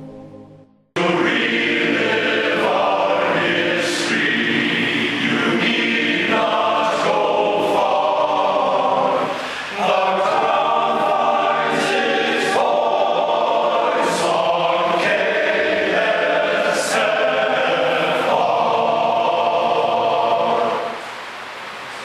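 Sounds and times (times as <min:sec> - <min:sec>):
men's chorus singing: 0:01.0 - 0:21.0.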